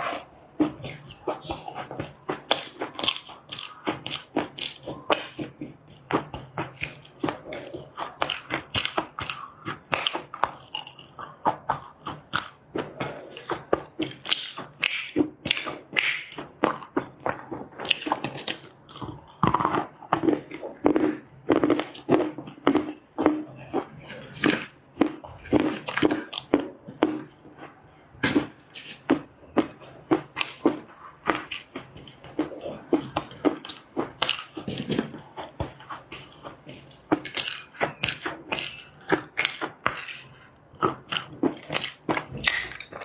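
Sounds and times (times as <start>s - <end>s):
clay crunching being chewed: 0.0s - 43.0s.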